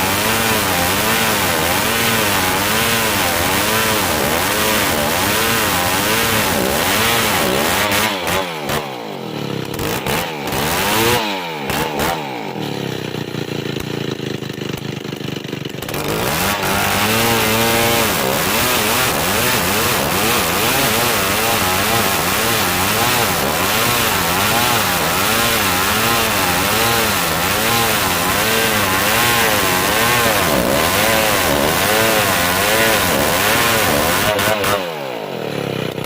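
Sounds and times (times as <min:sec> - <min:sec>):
chainsaw cutting wood: 0:00.0 - 0:36.0.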